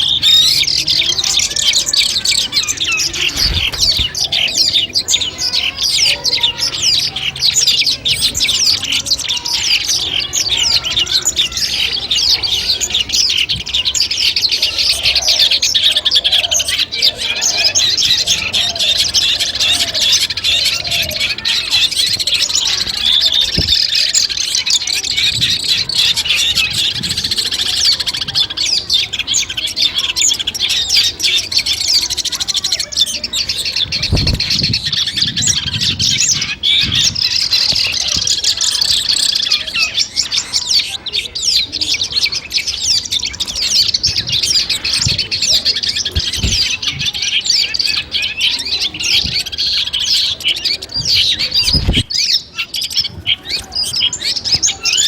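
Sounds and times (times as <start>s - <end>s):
bird singing rapid chirps: 0.0s - 55.0s.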